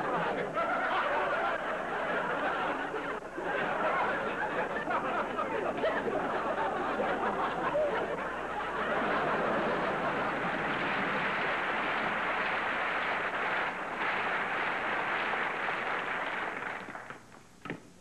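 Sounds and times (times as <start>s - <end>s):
audience laughing: 0.0s - 16.1s.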